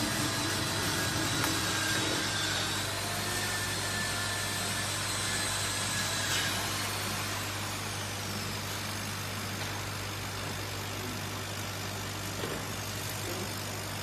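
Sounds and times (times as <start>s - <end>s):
laser cutter humming: 0.0s - 14.0s.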